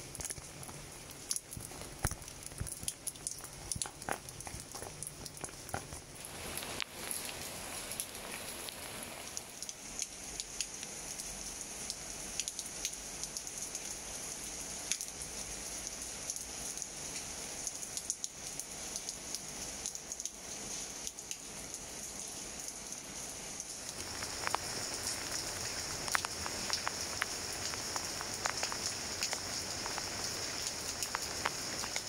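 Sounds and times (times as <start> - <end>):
rain falling on leaves: 0.0 - 32.0.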